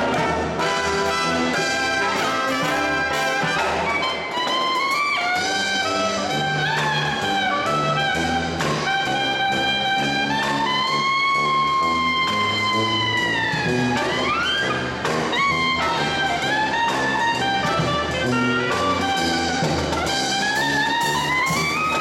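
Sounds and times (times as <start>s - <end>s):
brass marching band playing: 0.0s - 22.0s.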